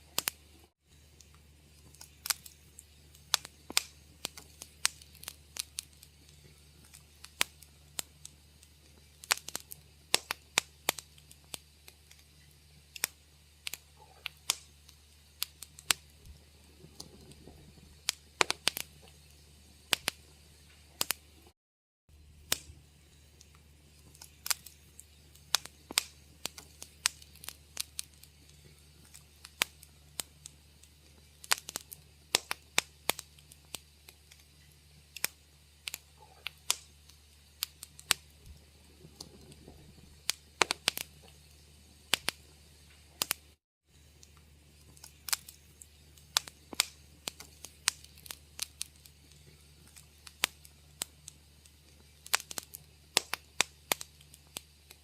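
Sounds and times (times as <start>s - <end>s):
faint low hum: 0.0s - 21.5s, 22.1s - 55.0s
wood fire crackling: 0.0s - 55.0s.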